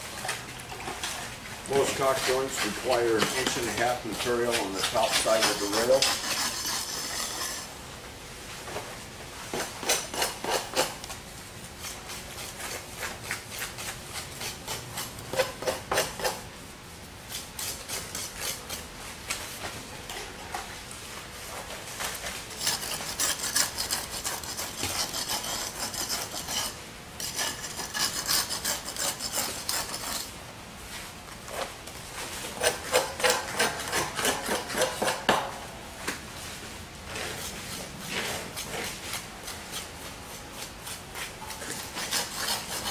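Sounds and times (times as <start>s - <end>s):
tool scraping wet concrete: 0.2s - 7.8s, 9.6s - 16.4s, 17.3s - 18.9s, 21.9s - 30.4s, 31.6s - 35.6s, 37.1s - 42.9s.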